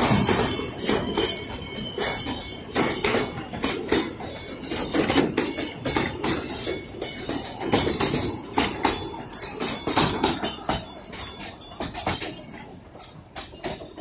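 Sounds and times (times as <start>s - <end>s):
low rumble of train: 0.0s - 14.0s
train wheels clacking over rail joints: 0.0s - 14.0s.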